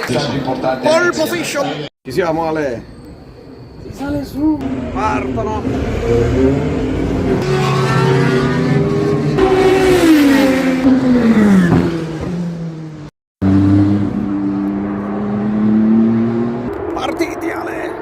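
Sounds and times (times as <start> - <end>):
race car engines: 2.8 - 18.0.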